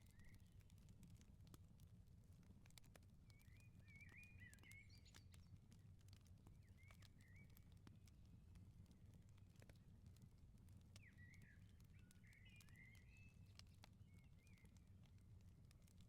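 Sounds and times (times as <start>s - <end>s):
wood fire crackling: 0.0s - 4.2s, 5.2s - 16.0s.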